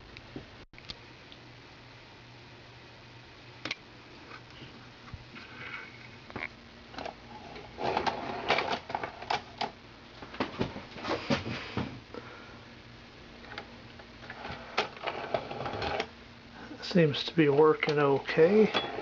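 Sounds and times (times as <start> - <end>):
faint motor hum: 0.0 - 19.0.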